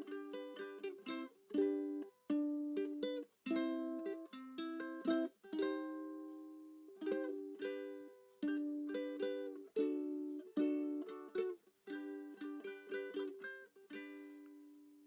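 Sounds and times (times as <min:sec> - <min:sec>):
strummed ukulele chords: 0:00.0 - 0:15.0.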